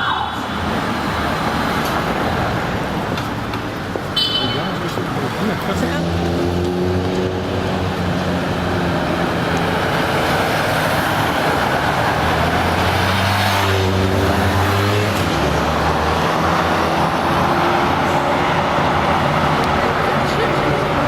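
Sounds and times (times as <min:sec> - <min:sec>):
road noise: 0:00.0 - 0:21.0
vehicle engines humming: 0:00.0 - 0:21.0.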